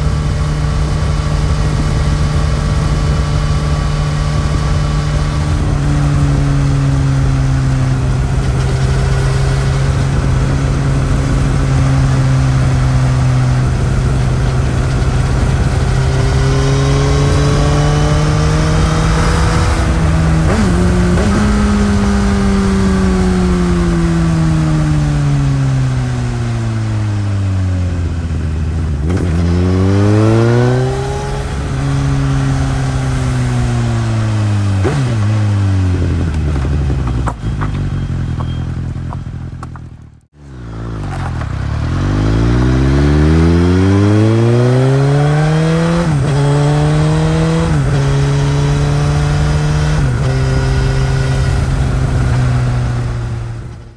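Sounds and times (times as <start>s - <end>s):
motorcycle engine revving and shifting: 0.0s - 53.9s.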